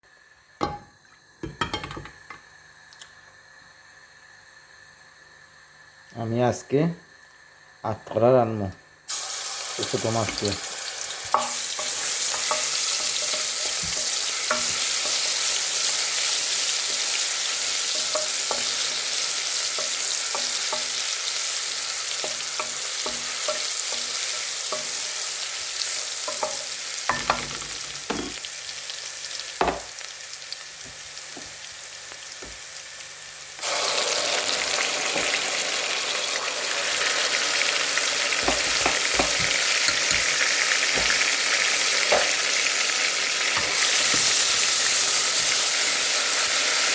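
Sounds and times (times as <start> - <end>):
food sizzling in a pan: 0.1 - 6.1, 6.9 - 7.8, 8.9 - 46.9.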